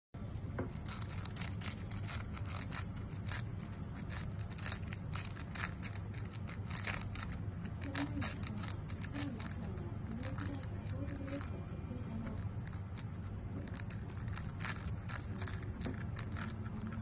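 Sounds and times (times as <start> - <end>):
hamsters crunching food: 0.2 - 17.0
low hum: 0.2 - 17.0.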